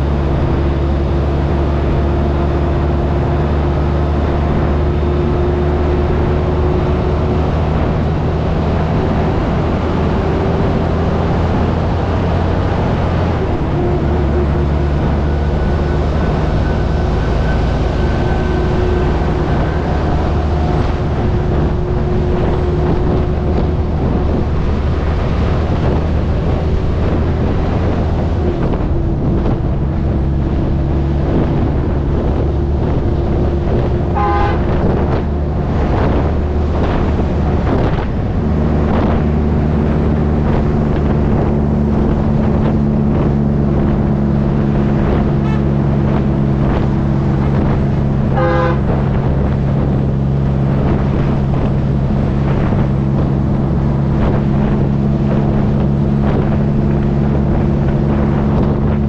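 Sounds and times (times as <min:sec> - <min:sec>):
road noise: 0:00.0 - 0:59.0
truck diesel engine running: 0:00.0 - 0:59.0
wind buffeting microphone: 0:00.0 - 0:59.0.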